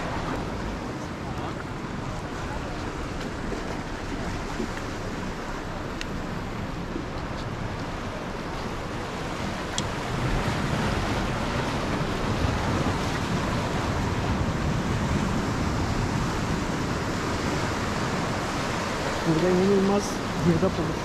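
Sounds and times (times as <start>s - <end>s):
waves splashing against rocks: 0.0s - 21.0s.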